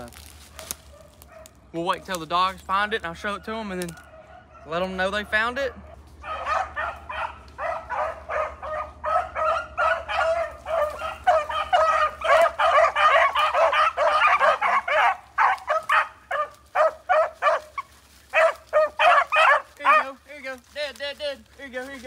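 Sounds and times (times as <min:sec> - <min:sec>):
dogs baying: 0:00.4 - 0:20.3.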